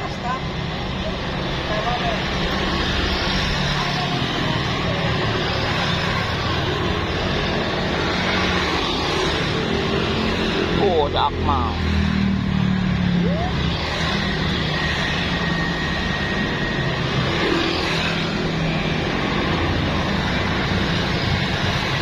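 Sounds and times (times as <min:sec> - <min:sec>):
heavy road traffic rumble: 0:00.0 - 0:22.0.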